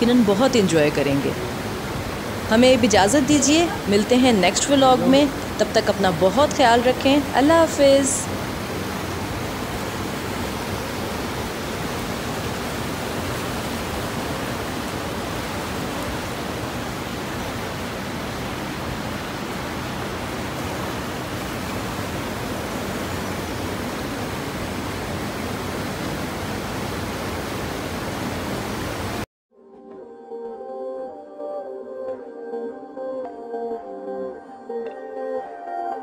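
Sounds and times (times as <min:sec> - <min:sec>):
waterfall rushing over boulders: 0:00.0 - 0:29.3.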